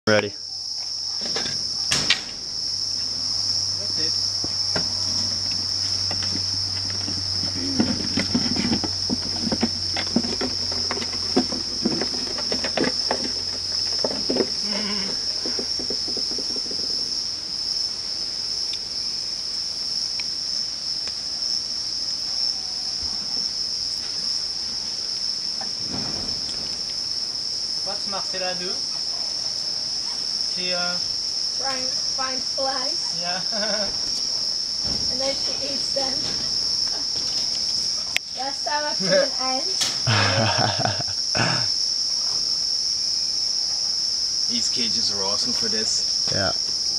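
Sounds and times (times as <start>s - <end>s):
insect chorus drone: 0.1s - 46.9s.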